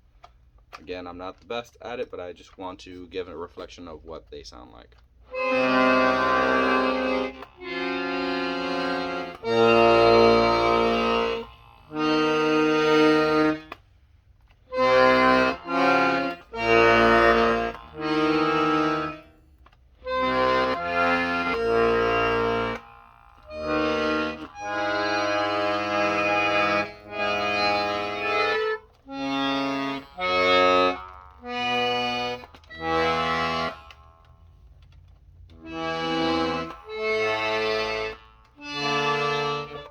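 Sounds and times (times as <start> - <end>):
accordion bass and chord notes: 5.2 - 13.8, 14.7 - 39.9.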